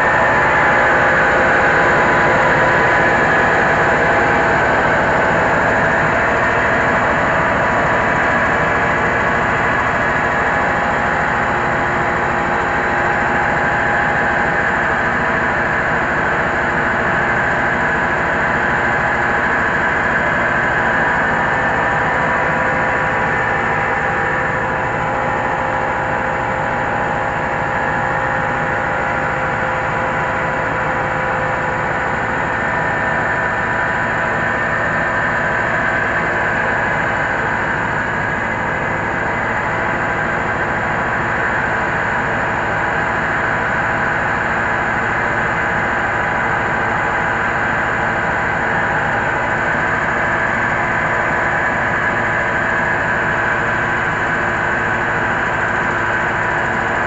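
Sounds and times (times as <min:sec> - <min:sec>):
diesel rice huller running: 0:00.0 - 0:57.0
steady mechanical whine: 0:00.0 - 0:57.0.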